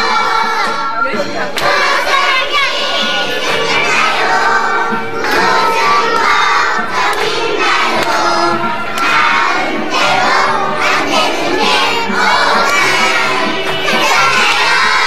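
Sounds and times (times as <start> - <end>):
children singing in chorus: 0.0 - 15.0.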